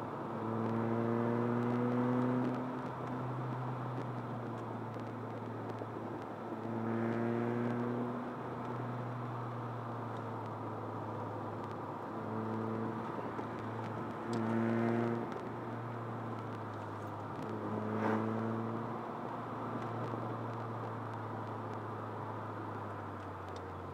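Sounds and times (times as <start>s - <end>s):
car engine hum: 0.0s - 23.9s
road noise: 0.0s - 23.9s.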